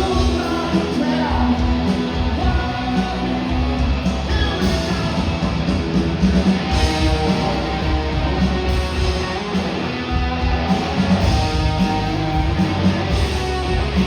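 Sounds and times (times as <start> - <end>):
rock band playing loudly: 0.0 - 14.0.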